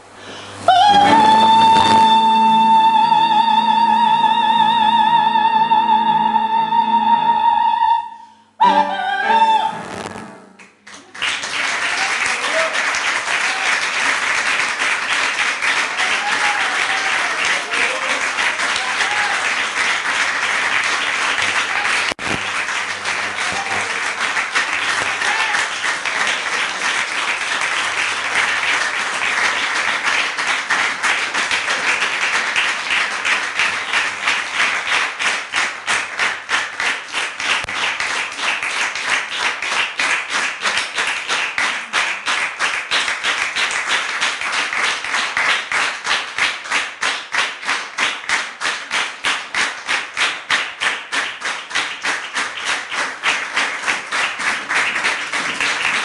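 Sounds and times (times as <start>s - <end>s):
audience applauding: 8.6s - 56.0s
rhythmic unison clapping: 9.8s - 56.0s.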